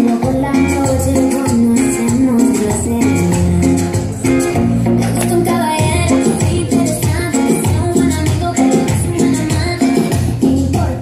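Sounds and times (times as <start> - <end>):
upbeat latin dance music: 0.0 - 11.0.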